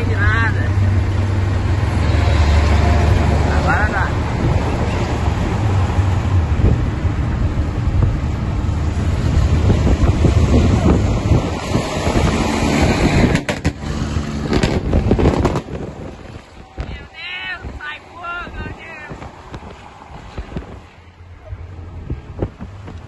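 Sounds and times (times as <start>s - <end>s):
road and wind noise: 0.0s - 23.0s
truck engine rumble: 0.0s - 23.0s.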